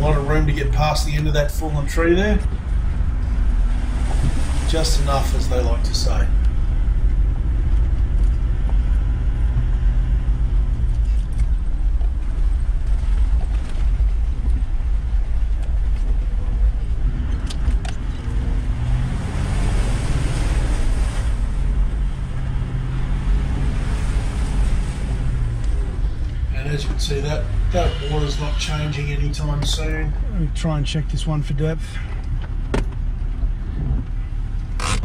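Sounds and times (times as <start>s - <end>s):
vehicle engine running at low speed: 0.0s - 35.0s.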